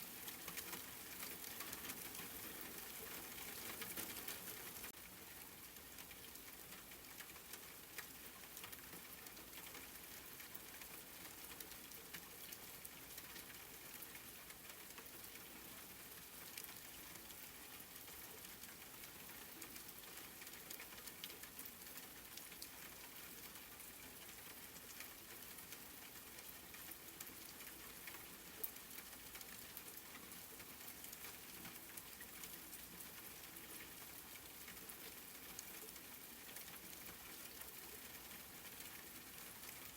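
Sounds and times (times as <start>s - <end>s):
faint steady rain: 0.0s - 39.9s.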